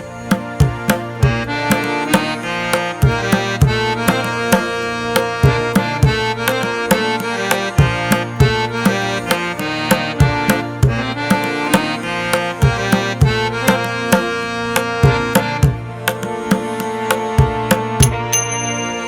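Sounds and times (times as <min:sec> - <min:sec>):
sustained melodic instrument: 0:00.0 - 0:19.0
hand-drum beat: 0:00.3 - 0:18.7.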